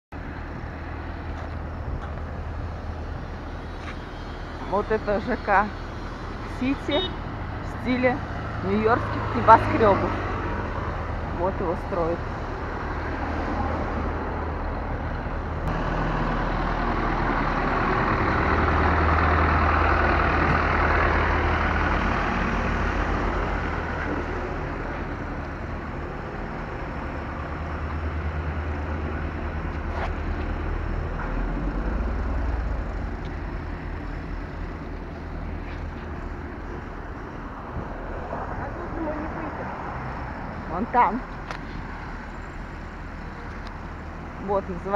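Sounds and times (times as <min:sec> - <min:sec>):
heavy vehicle engine humming: 0:00.1 - 0:44.9
road traffic noise: 0:00.1 - 0:44.9.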